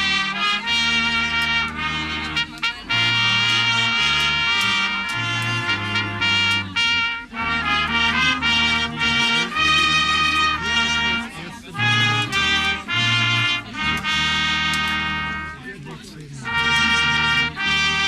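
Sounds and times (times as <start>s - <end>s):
brass band playing: 0.0s - 15.8s, 16.4s - 18.0s.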